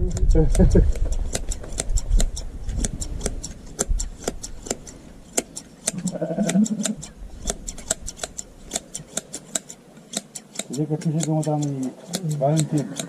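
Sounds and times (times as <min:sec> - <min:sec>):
hand shears snipping fleece: 0:00.0 - 0:13.0.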